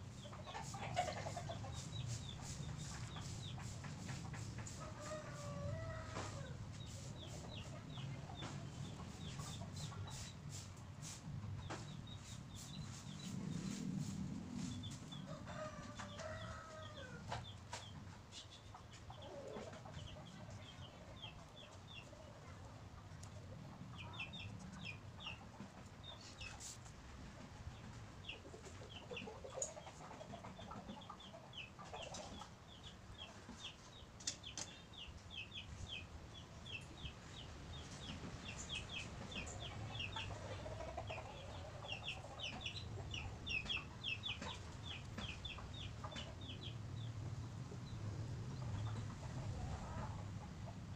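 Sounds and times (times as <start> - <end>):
chickens clucking: 0.0 - 50.9.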